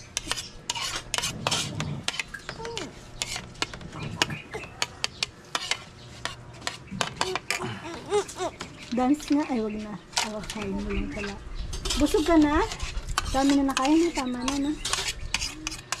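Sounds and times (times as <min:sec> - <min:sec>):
metal spoon scraping plastic plate: 0:00.1 - 0:02.6, 0:03.2 - 0:07.6, 0:08.2 - 0:16.0.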